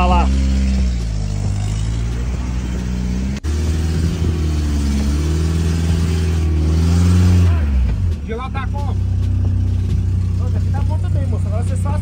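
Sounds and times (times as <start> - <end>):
pickup engine running at low revs: 0.0 - 12.0.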